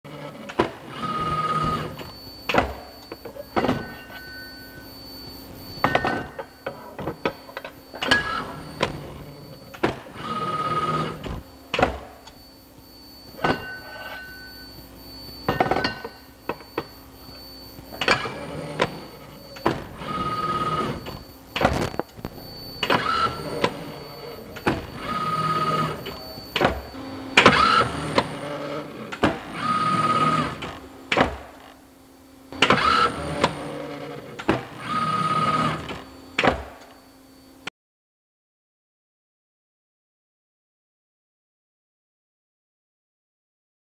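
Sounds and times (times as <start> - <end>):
mechanical stroke with steady whine: 0.1 - 37.7.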